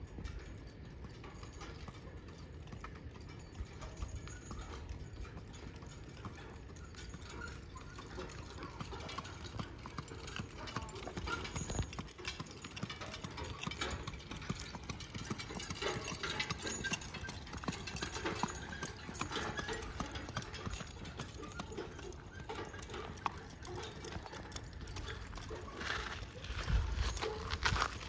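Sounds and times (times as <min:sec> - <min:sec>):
hooves clip-clopping on asphalt: 0:00.0 - 0:28.0.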